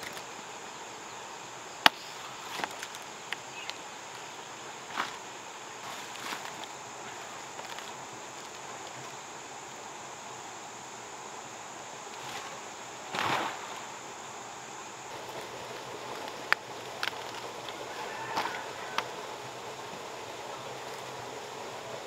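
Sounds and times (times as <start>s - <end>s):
insects chirring: 0.0s - 22.0s
large leaves rustling: 0.0s - 22.0s.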